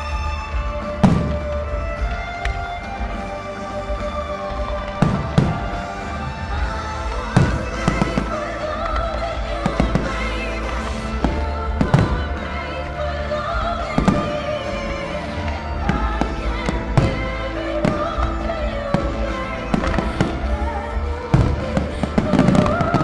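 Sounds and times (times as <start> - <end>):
fireworks bursting: 0.0 - 23.0
music: 0.0 - 23.0.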